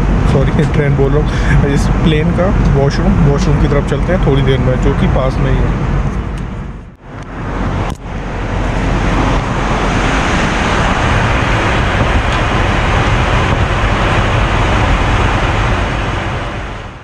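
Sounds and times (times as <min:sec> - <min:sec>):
jet cabin noise: 0:00.0 - 0:17.0.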